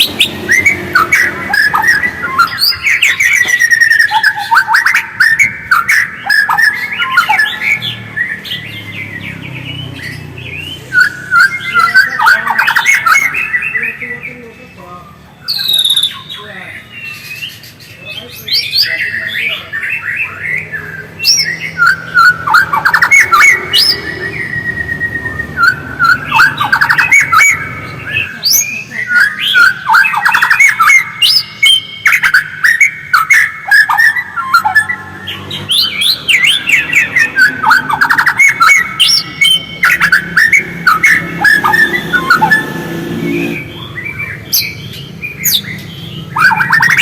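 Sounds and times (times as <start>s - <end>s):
bird singing rapid trills: 0.0s - 47.0s.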